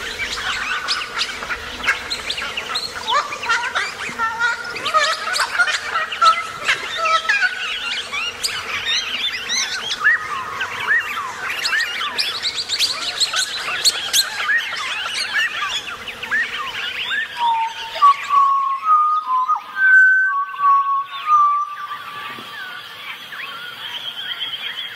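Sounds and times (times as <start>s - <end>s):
birds chirping and calling: 0.0s - 24.9s.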